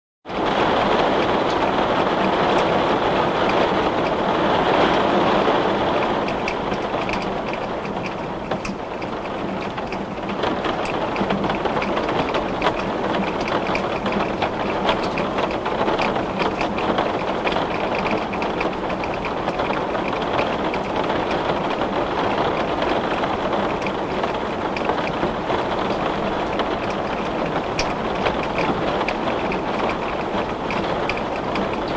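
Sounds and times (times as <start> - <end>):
heavy rain on glass: 0.2 - 31.9.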